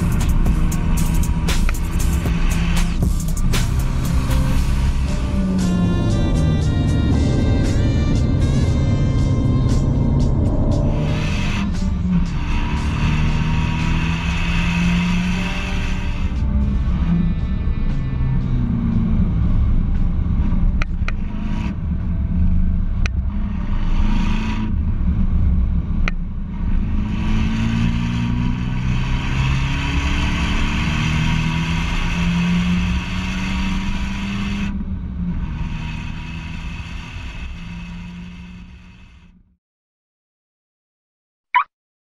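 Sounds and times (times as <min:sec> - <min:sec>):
car engine revving through gears: 0:00.0 - 0:39.2.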